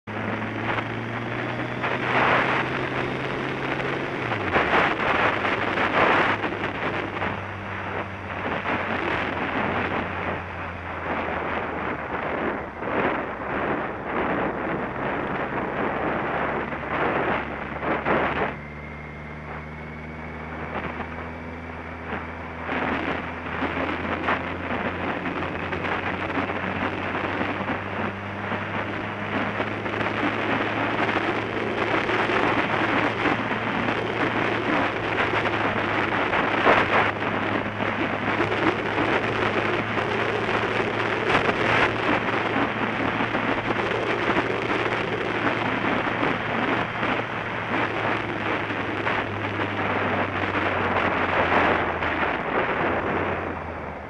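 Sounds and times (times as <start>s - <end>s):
motorcycle engine hum: 0.0s - 54.0s
wind buffeting microphone: 0.1s - 54.0s.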